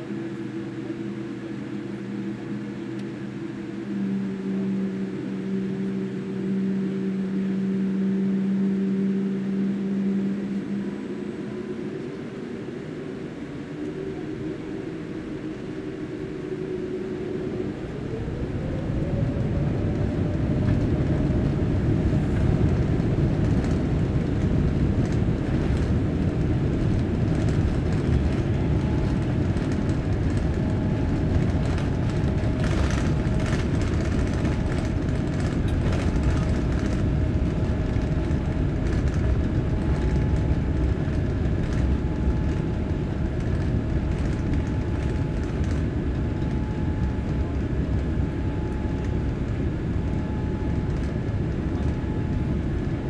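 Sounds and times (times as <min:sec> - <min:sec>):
aircraft rolling rumble: 0:00.0 - 0:53.0
jet engines spooling up: 0:00.0 - 0:53.0.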